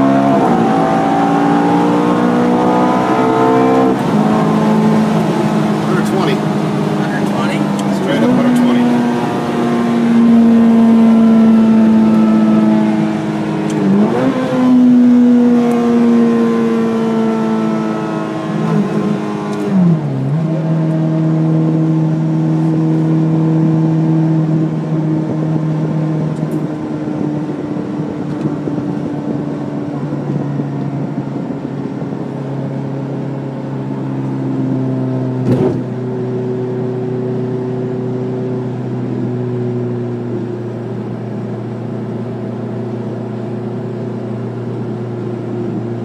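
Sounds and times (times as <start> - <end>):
sports car engine at speed: 0.0 - 46.0.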